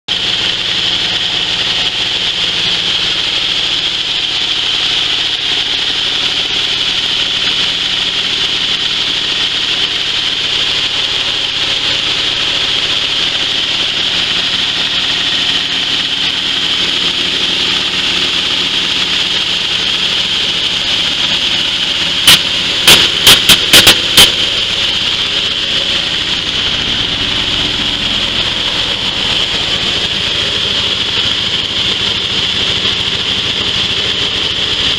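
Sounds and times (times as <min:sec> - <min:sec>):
coffee huller running: 0:00.1 - 0:34.9.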